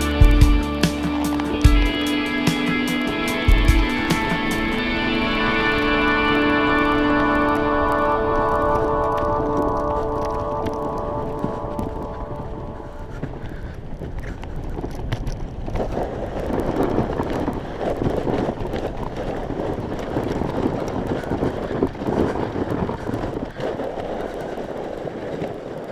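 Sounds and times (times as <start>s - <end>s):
sled runners scraping over snow: 0.0s - 25.9s
wind buffeting microphone: 0.0s - 25.9s.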